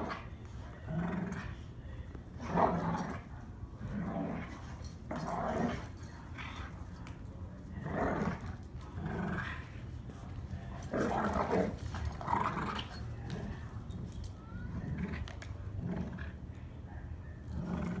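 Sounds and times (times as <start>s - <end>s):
dogs growling in play: 0.0s - 16.6s, 17.4s - 18.0s.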